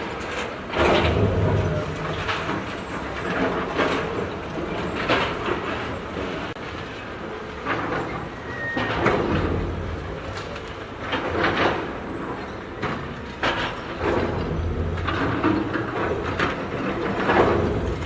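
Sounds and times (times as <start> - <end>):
clanking and crashing debris: 0.0 - 18.0
demolition machinery rumbling: 0.0 - 18.0.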